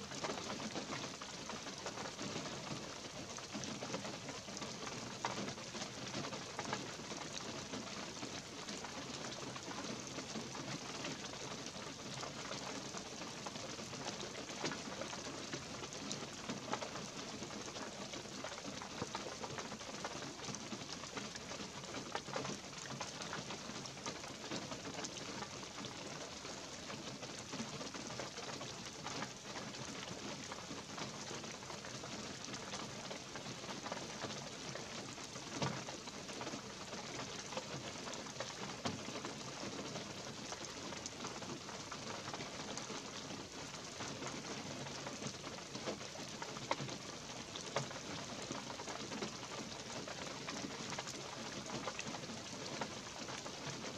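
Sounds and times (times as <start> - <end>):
light rain hiss: 0.0 - 53.9
rain drips ticking: 0.0 - 53.9.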